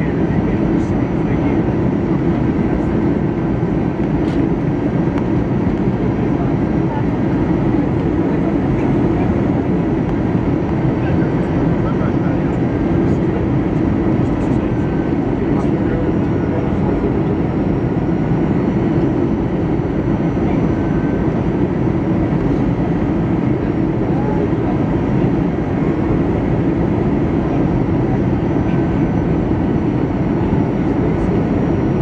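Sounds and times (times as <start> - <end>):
jet engines rumbling in cabin: 0.0 - 32.0.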